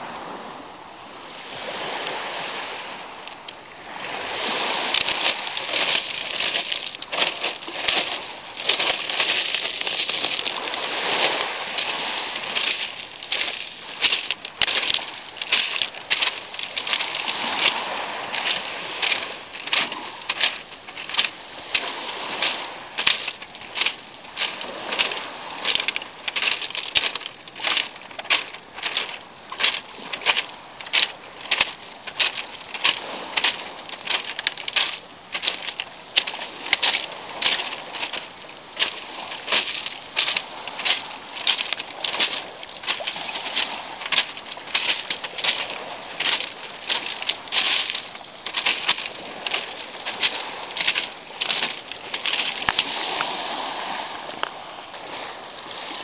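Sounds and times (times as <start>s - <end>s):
soft steady rush: 2.7s - 53.3s
pebbles clicking and crunching: 3.2s - 55.2s.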